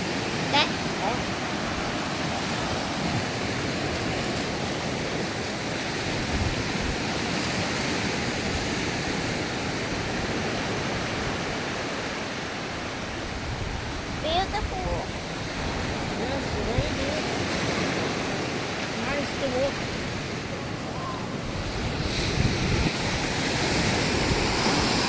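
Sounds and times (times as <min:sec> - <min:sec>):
sea waves washing onto sand: 0:00.0 - 0:25.0.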